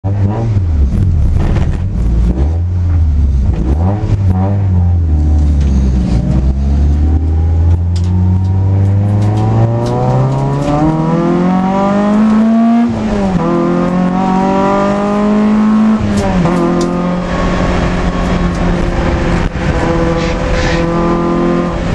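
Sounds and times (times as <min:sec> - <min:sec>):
car engine accelerating: 0:00.0 - 0:21.9.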